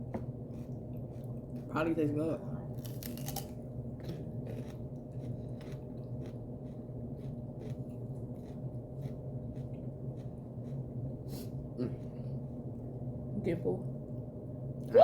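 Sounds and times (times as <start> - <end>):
crunching and chewing food: 0.0 - 13.0
steady low hum: 0.0 - 15.0.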